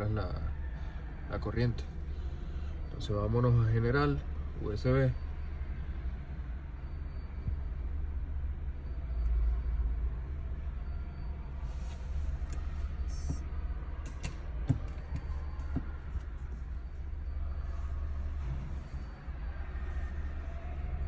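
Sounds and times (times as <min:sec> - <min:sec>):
low rumble in car cabin: 0:00.0 - 0:21.0.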